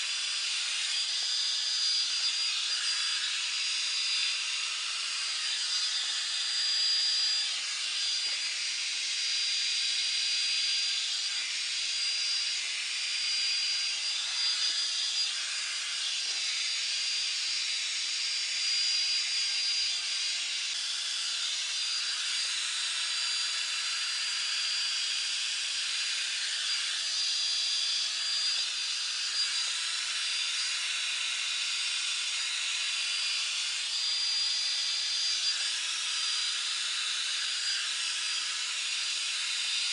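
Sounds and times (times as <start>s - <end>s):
hair dryer brush running: 0.0s - 39.9s.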